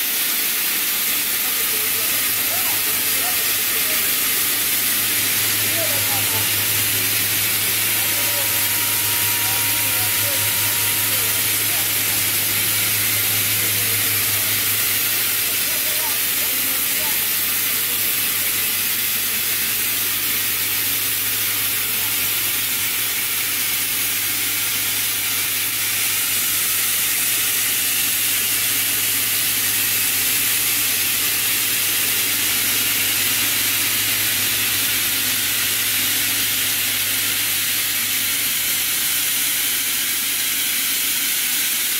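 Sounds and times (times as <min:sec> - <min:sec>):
machine hiss: 0:00.0 - 0:41.9
low machine hum: 0:01.2 - 0:39.4.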